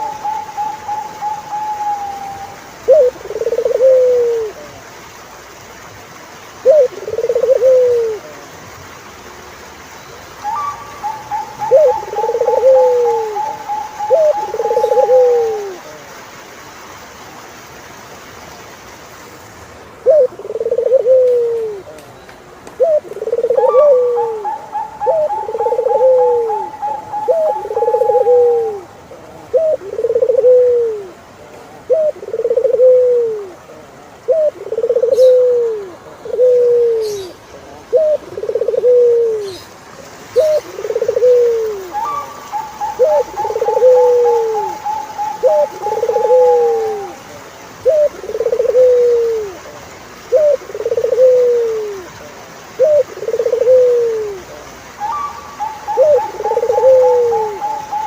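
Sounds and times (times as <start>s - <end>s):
dove cooing: 0.0s - 4.8s, 6.6s - 8.5s, 10.4s - 16.0s, 20.0s - 22.0s, 22.8s - 39.7s, 40.3s - 58.0s.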